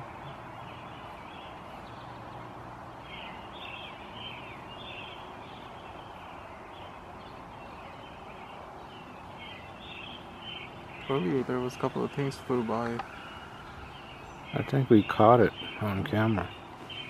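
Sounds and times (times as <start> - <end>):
birds chirping: 0.0 - 17.0
steady background hiss: 0.0 - 17.0.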